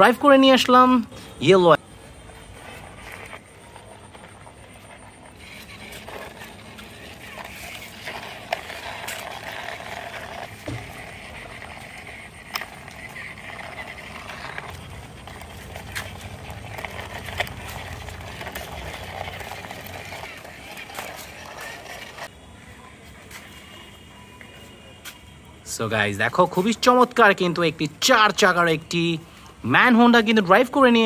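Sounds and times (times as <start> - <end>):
toy wheels scraping on concrete: 0.0 - 22.3, 26.3 - 31.0.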